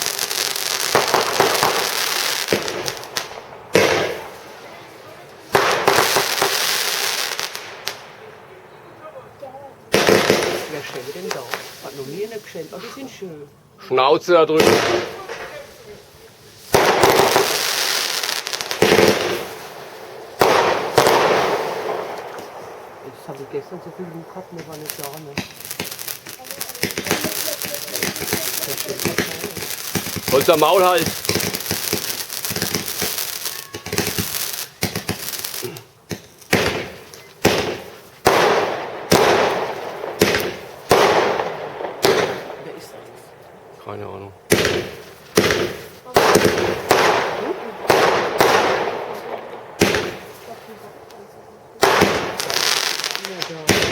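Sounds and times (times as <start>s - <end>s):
fireworks bangs: 0.0s - 13.4s, 14.3s - 53.9s
fireworks crackling hiss: 0.0s - 53.9s.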